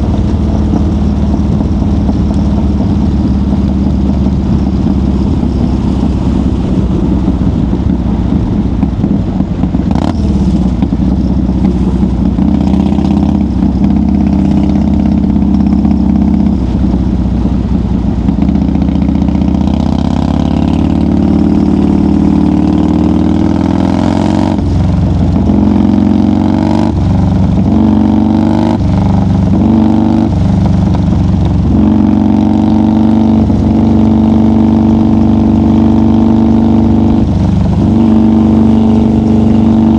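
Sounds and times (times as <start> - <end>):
motorcycle engine at highway speed: 0.0 - 39.9.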